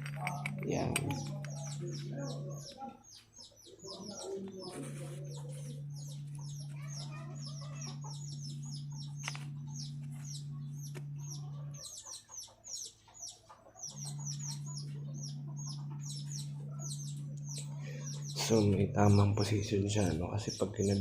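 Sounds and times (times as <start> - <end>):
low bird clucks: 0.0 - 18.6
small birds chirping: 0.0 - 21.0
steady low hum: 0.0 - 21.0.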